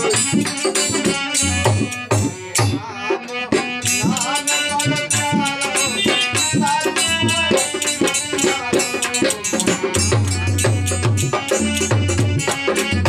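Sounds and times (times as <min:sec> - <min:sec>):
hand drum beat: 0:00.0 - 0:02.9, 0:03.5 - 0:13.0
harmonium chords and melody: 0:00.0 - 0:13.0
jingling percussion: 0:00.0 - 0:13.0.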